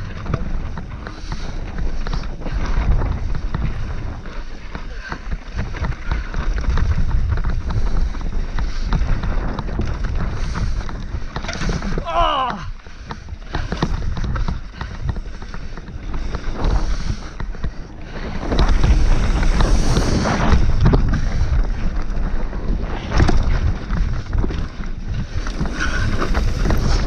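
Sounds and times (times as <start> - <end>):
bike rattling and knocking: 0.0 - 27.0
bike tyres on dirt trail: 0.0 - 27.0
wind buffeting microphone: 0.0 - 27.0.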